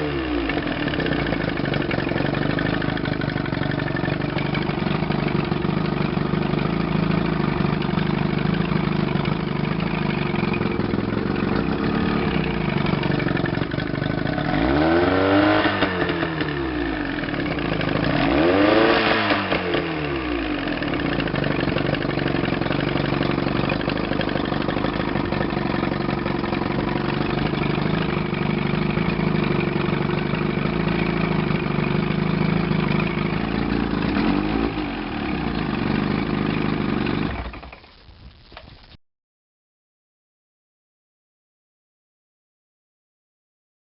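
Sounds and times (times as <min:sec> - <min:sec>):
outboard engine idling and revving: 0:00.0 - 0:37.8.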